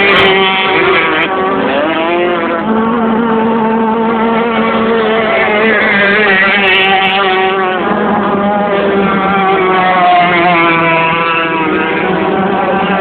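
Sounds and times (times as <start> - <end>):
powerboat engines at high revs: 0.0 - 13.0.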